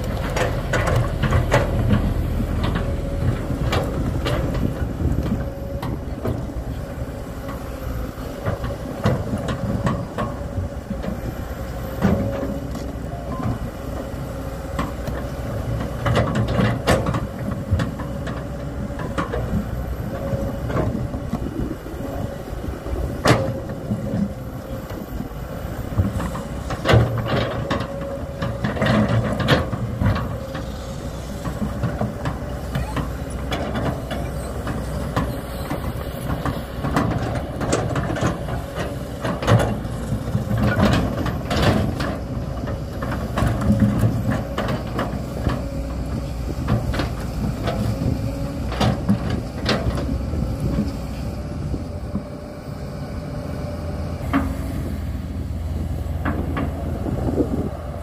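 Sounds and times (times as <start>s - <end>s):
excavator diesel engine whining: 0.0s - 58.0s.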